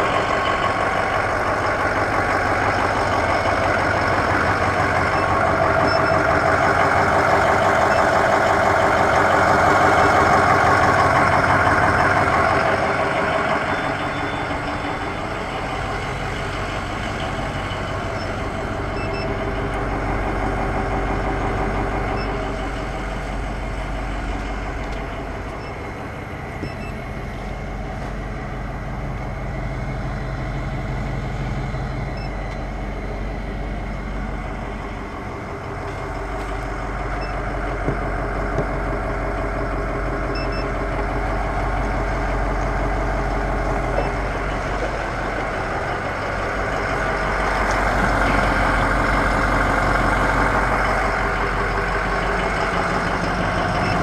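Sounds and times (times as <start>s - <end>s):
diesel bus engine idling: 0.0s - 54.0s.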